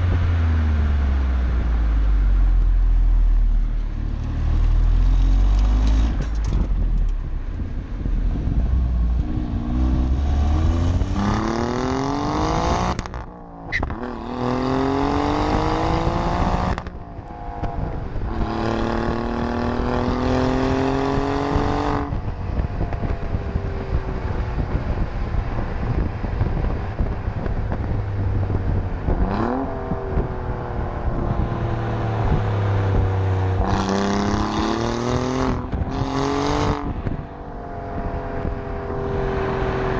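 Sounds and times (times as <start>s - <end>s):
car engine accelerating through gears: 0.0s - 39.9s.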